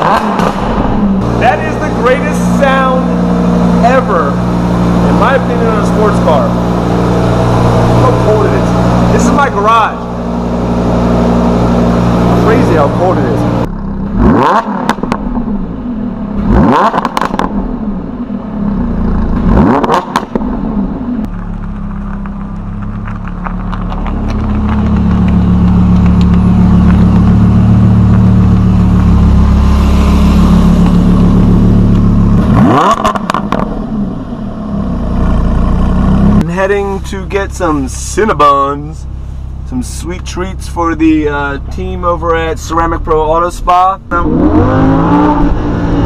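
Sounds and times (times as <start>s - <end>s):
sports car exhaust revving: 0.0s - 46.0s.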